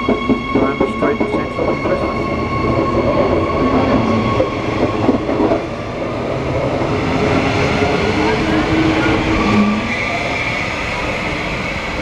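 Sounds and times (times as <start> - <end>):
electric train whine: 0.0 - 12.0
train wheels rumbling: 0.0 - 12.0.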